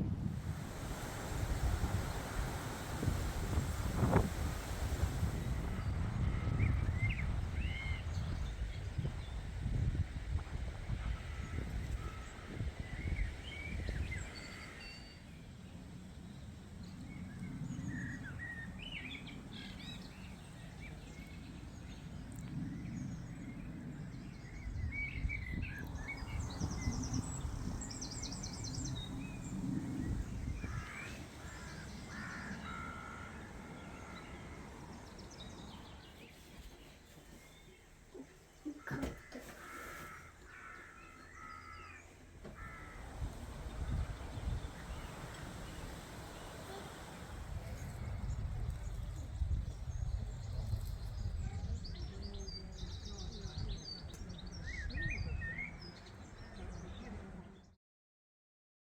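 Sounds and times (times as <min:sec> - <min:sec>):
small birds chirping and trilling: 0:00.4 - 0:57.7.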